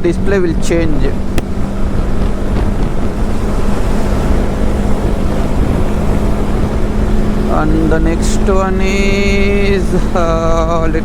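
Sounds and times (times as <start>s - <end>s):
motorcycle engine running: 0.0s - 11.0s
wind rush on microphone: 0.0s - 11.0s.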